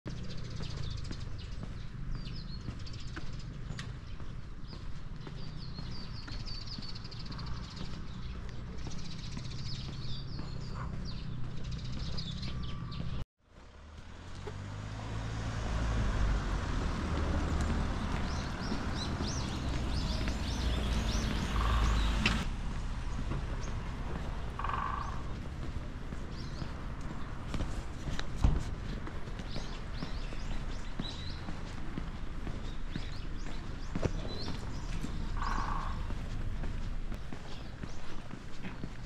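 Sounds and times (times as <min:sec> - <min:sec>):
songbirds chirping: 0:00.1 - 0:39.0.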